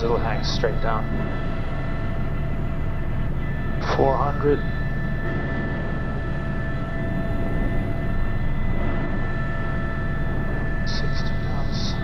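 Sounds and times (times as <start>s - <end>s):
helicopter rotor and turbine drone: 0.0s - 12.0s.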